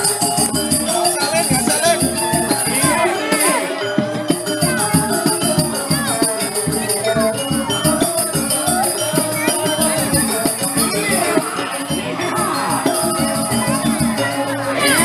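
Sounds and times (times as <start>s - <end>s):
bamboo xylophones ringing: 0.0s - 15.0s.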